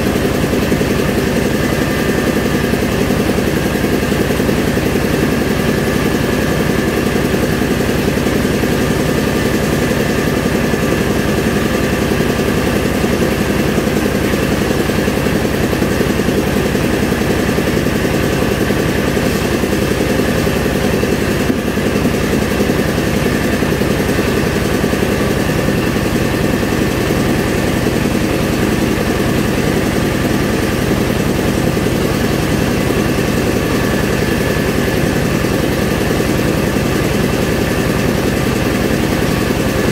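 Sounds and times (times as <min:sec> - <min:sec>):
rice milling machine running: 0:00.0 - 0:39.9.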